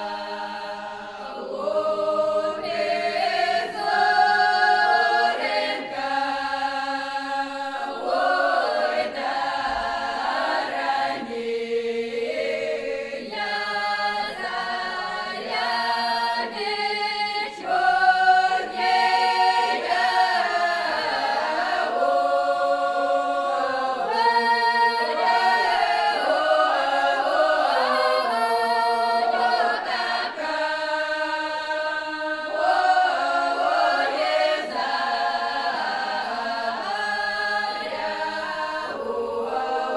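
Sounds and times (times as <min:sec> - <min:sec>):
folk choir singing a cappella: 0:00.0 - 0:39.9.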